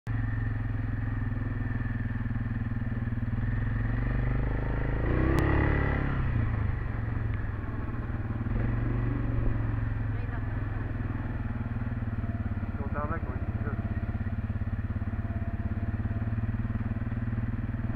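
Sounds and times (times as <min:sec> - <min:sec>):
quad engine running: 0:00.1 - 0:17.9.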